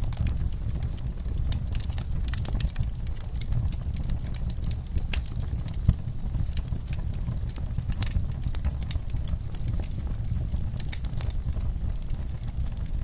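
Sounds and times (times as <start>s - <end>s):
fire crackling and popping: 0.0s - 13.0s
flames rumbling: 0.0s - 13.0s.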